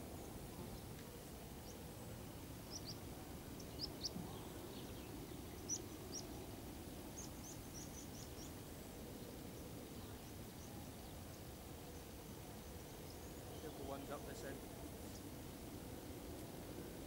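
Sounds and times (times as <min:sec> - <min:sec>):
low outdoor background noise: 0:00.0 - 0:17.0
small birds chirping: 0:00.0 - 0:17.0.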